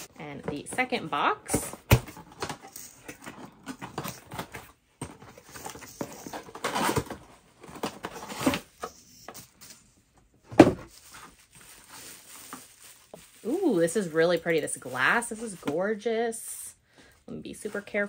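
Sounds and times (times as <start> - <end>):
cardboard and bubble wrap rustling: 0.0 - 16.2, 17.4 - 18.0.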